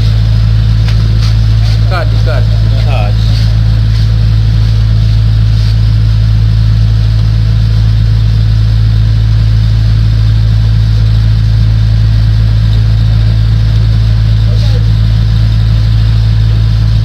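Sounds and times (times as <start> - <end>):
low-pitched hum: 0.0 - 17.0.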